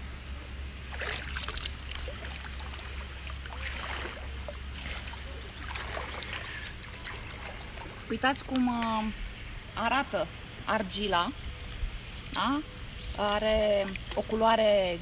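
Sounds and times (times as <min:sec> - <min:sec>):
steady low hum: 0:00.0 - 0:15.0
water trickling and splashing: 0:00.8 - 0:15.0.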